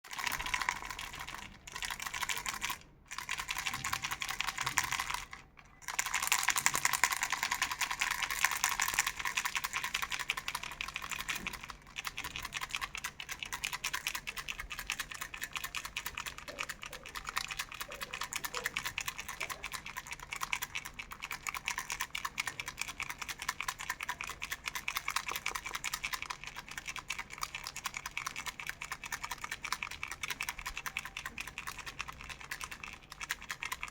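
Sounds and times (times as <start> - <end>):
rattle toy shaken: 0.0 - 33.9.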